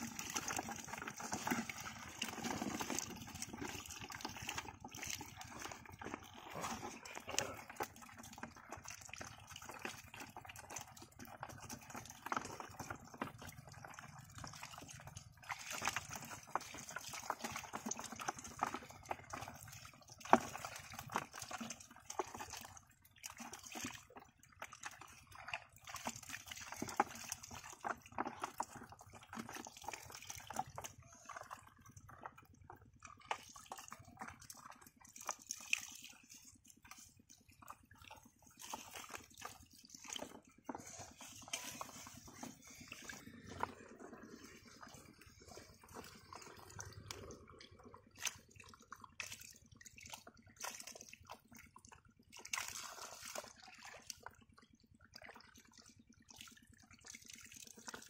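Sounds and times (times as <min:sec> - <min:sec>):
splashes and squelches in mud: 0:00.0 - 0:58.0.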